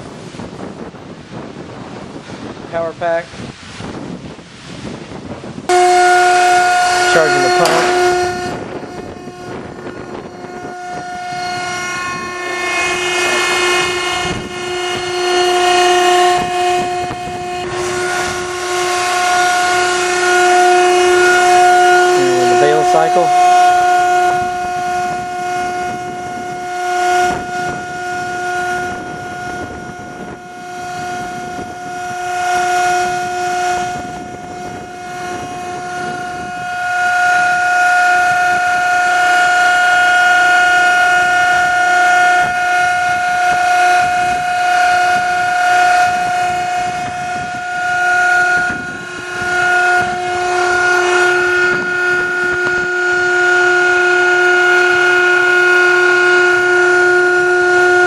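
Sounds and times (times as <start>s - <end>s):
hydraulic motor whine: 0.0s - 58.0s.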